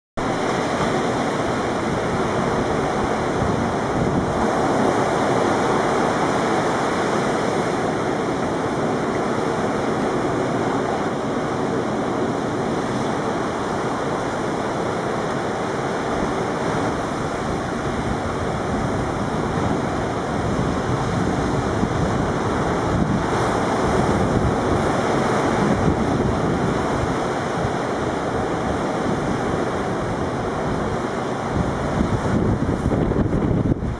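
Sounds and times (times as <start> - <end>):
ocean surf breaking: 0.2 - 33.9
wind buffeting microphone: 0.2 - 33.9.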